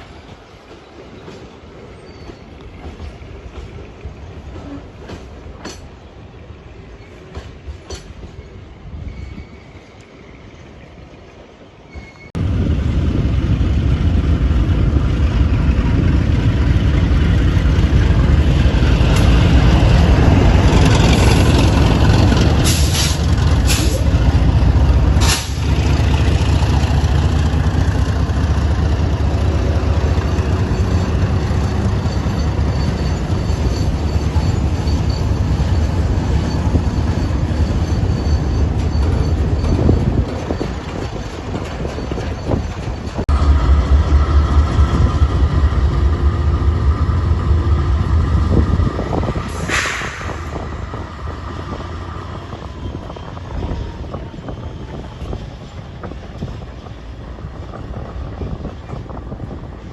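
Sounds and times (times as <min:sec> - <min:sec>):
diesel freight train rumbling: 0:00.0 - 0:59.9.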